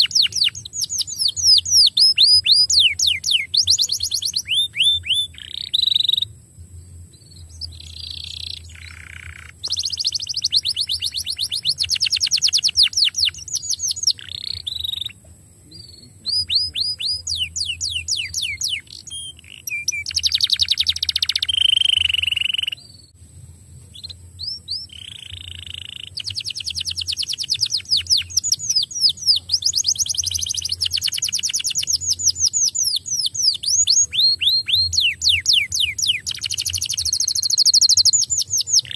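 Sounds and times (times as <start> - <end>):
canary singing trills: 0.0 - 23.2, 23.8 - 38.9.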